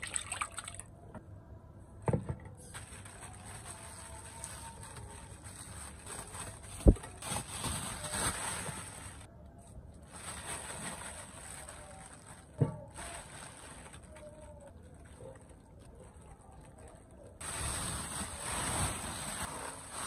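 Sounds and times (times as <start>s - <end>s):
plastic bag rustling: 2.2s - 9.3s, 10.0s - 20.0s.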